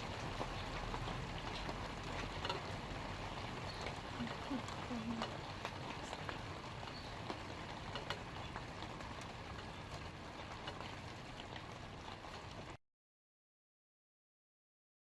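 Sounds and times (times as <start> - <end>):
light rain on leaves: 0.0 - 12.8.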